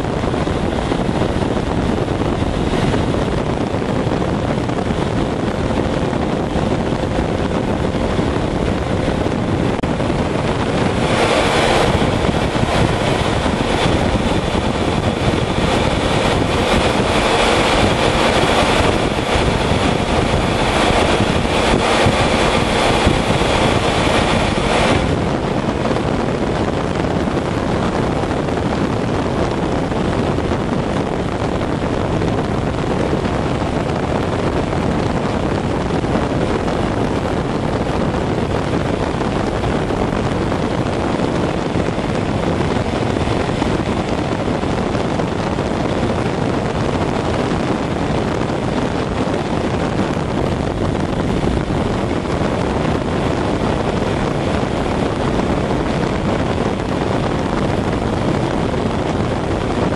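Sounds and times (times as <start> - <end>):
auxiliary power unit rushing: 0.0 - 59.9.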